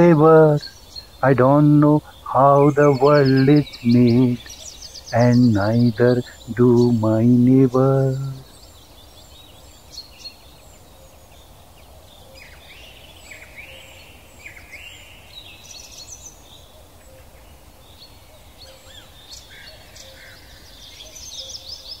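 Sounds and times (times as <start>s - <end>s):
faint background hiss: 0.0s - 22.0s
small birds chirping: 0.0s - 22.0s.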